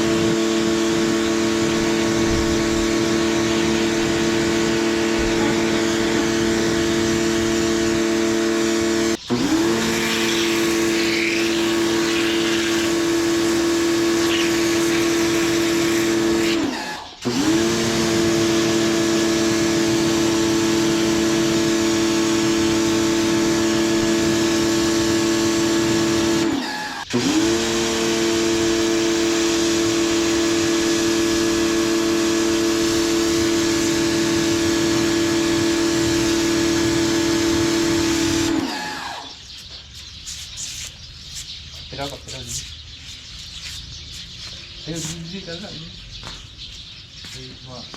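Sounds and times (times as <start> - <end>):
pressure washer motor hum: 0.0 - 39.7.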